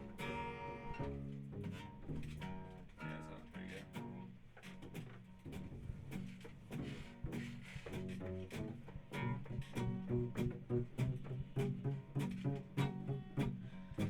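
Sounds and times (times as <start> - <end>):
guitar strumming and plucking: 0.0 - 14.0.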